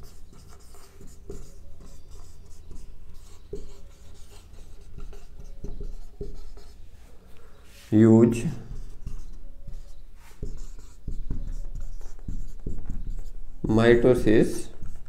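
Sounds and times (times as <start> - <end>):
marker pen scratching on whiteboard: 0.0 - 15.0.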